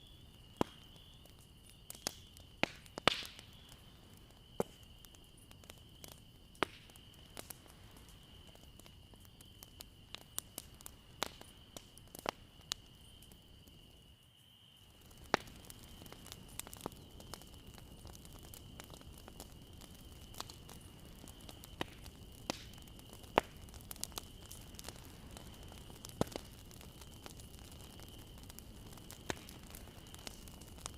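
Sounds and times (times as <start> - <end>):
burning wood crackling: 0.0 - 30.9
low steady fire rush: 1.6 - 13.9, 14.9 - 30.9.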